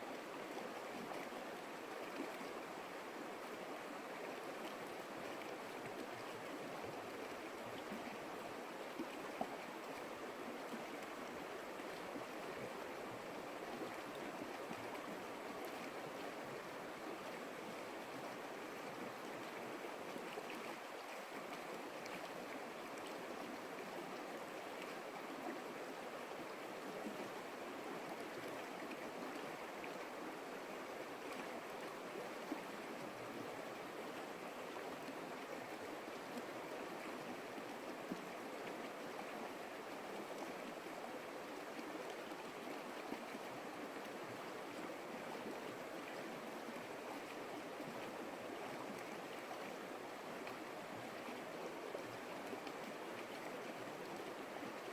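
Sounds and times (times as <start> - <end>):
stream water running: 0.0 - 54.9.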